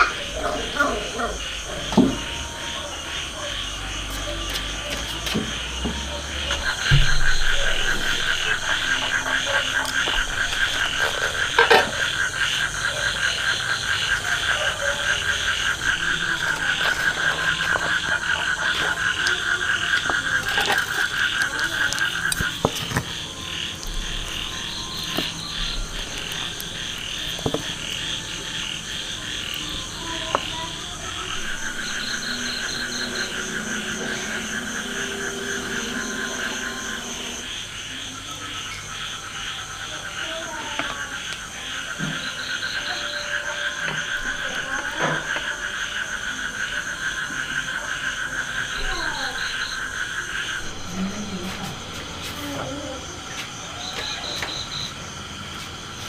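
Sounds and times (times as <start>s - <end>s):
frogs trilling: 0.0s - 56.0s.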